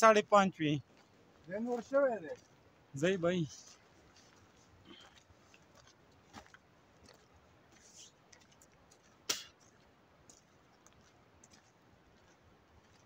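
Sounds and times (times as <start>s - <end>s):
footsteps on stony dirt trail: 0.8s - 13.0s.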